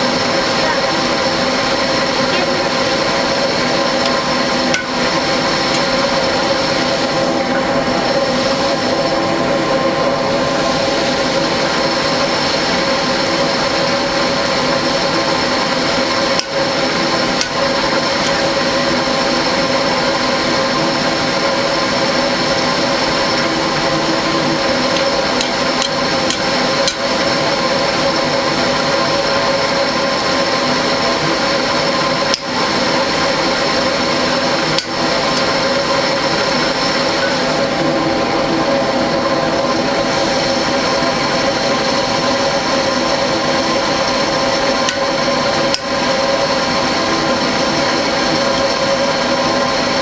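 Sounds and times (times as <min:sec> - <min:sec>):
electric blower fan humming: 0:00.0 - 0:50.0.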